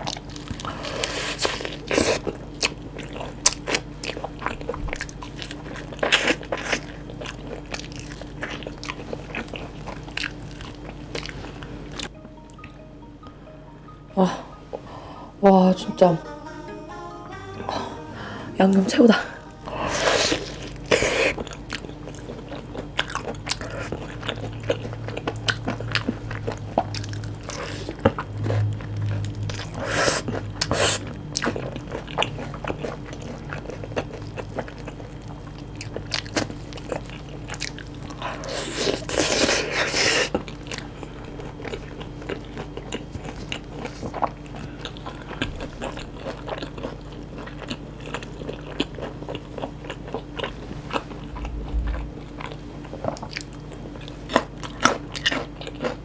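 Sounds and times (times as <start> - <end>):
chewing crunchy fried chicken: 0.0 - 12.1, 20.4 - 56.0
faint steady hum: 0.0 - 56.0.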